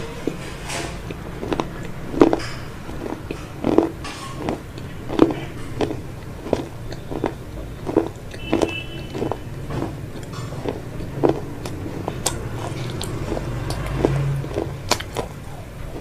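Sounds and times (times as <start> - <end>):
crunchy chewing: 0.0 - 16.0
low steady hum: 0.0 - 16.0
wet mouth clicks: 1.0 - 16.0.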